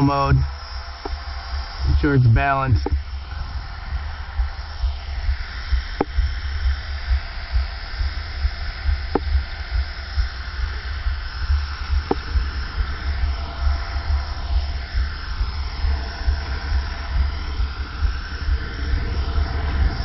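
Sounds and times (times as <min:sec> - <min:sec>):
low rumble: 0:00.0 - 0:20.0
rc helicopter motor whine: 0:00.0 - 0:20.0.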